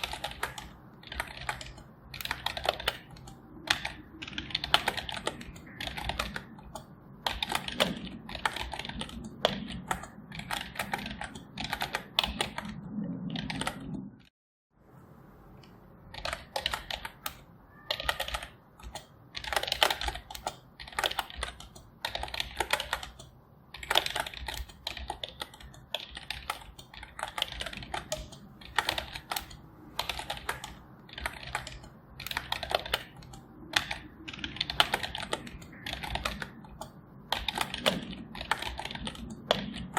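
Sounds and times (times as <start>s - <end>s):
computer keyboard typing: 0.0s - 14.3s, 16.1s - 39.9s.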